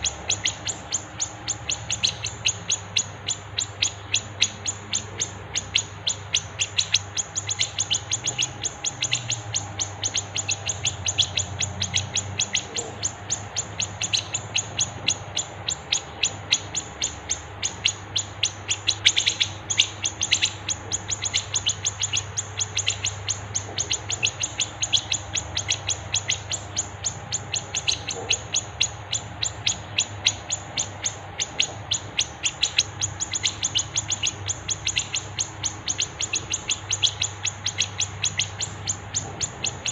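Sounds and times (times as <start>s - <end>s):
songbird chirping rapidly: 0.0s - 39.9s.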